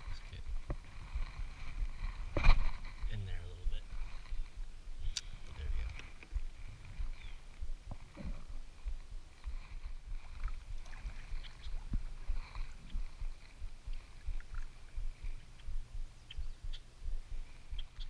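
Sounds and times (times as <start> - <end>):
water lapping against hull: 0.0 - 18.0
wind rumble on microphone: 0.0 - 18.0.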